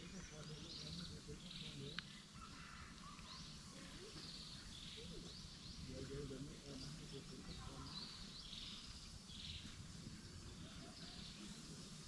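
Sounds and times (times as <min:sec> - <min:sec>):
high chirping calls: 0:00.0 - 0:12.0.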